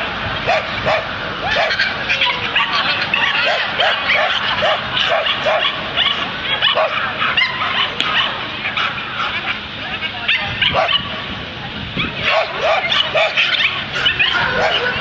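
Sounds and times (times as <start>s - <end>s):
small dog yapping: 0.5s - 9.3s, 10.3s - 11.1s, 12.0s - 15.0s.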